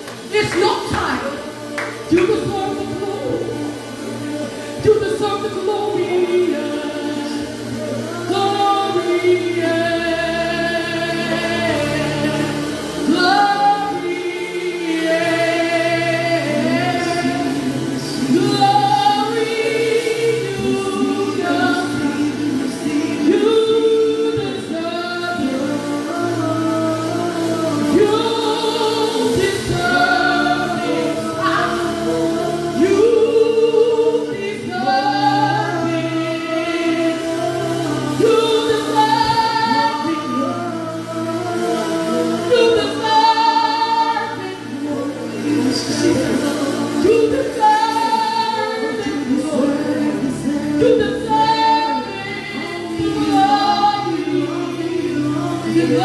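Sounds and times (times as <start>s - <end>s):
group singing gospel: 0.0s - 56.0s.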